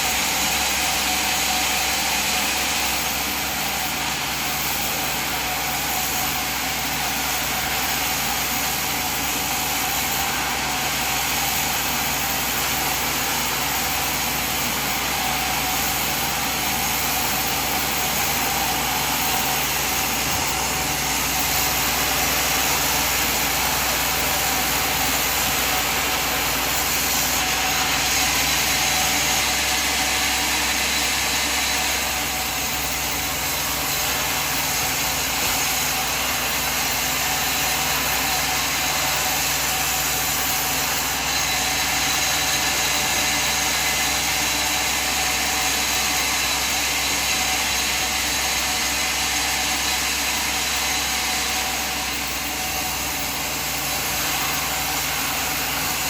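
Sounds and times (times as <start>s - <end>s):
sawmill machine running: 0.0s - 56.0s.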